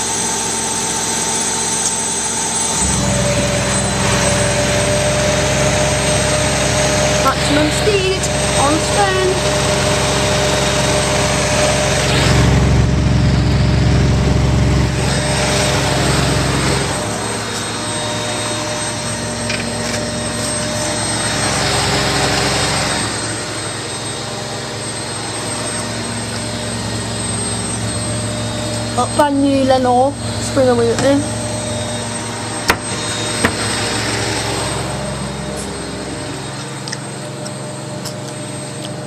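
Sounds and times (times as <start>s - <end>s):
washing machine spinning: 0.0s - 39.0s.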